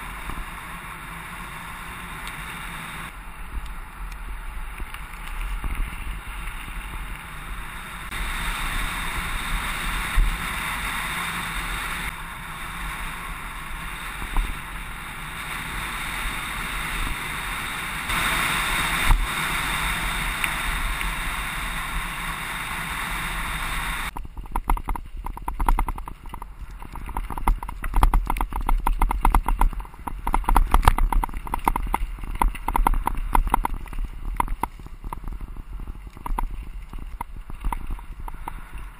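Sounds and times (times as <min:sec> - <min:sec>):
bicycle rattling on rough ground: 0:00.0 - 0:23.0, 0:23.6 - 0:38.9
bicycle tyres on gravel: 0:00.0 - 0:38.9.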